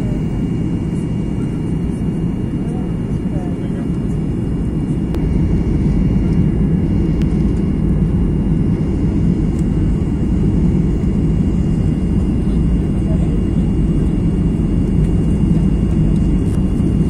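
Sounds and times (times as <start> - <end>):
faint high whine: 0.0 - 17.0
jet engines roaring: 0.0 - 17.0.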